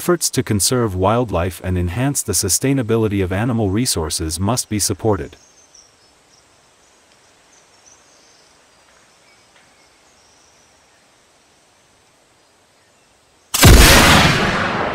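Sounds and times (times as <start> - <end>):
low even hiss: 0.0 - 14.9.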